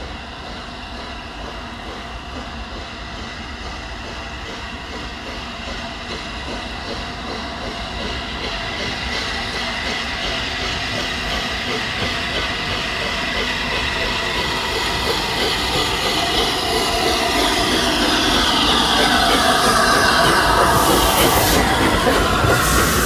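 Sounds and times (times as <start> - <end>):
steam hiss: 0.0 - 23.0
steam locomotive chuffing: 0.0 - 23.0.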